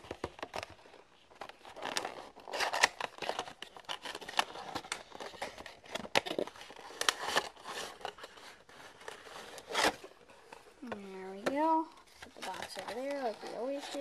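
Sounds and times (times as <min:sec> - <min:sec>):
cardboard packaging rustling: 0:00.0 - 0:14.0.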